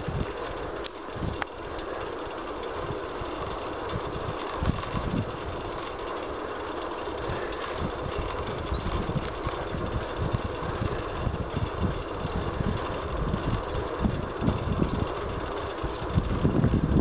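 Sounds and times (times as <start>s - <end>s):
wind buffeting microphone: 0.0s - 1.9s, 2.7s - 6.0s, 7.1s - 17.0s.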